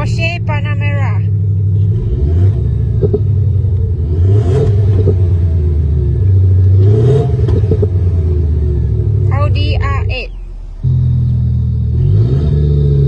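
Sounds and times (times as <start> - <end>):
synthesized sports car engine revving: 0.0 - 13.0.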